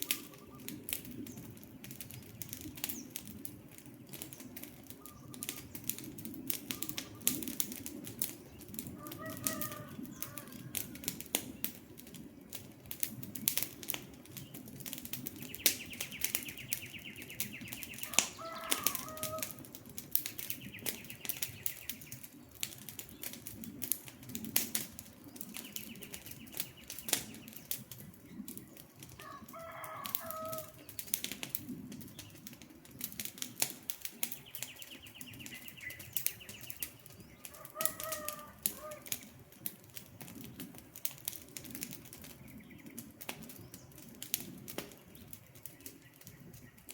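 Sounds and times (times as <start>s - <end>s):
birds calling: 0.0s - 12.5s, 13.1s - 46.9s
campfire crackling and popping: 0.0s - 46.9s.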